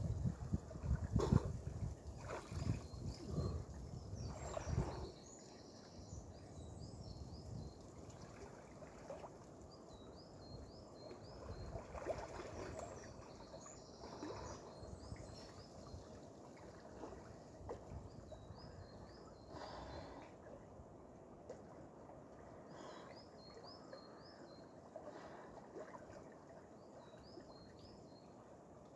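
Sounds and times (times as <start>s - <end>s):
songbird chirping: 2.2s - 20.6s, 21.6s - 28.9s.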